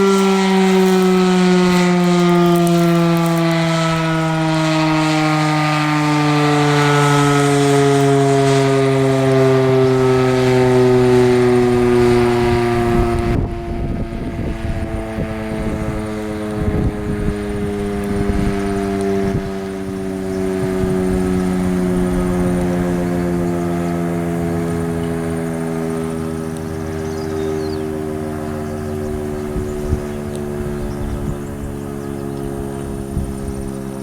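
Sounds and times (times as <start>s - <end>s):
tornado siren: 0.0s - 34.0s.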